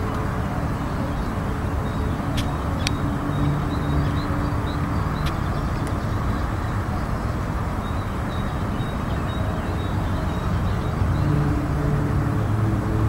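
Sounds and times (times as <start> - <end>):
low steady tones: 0.0 - 13.0.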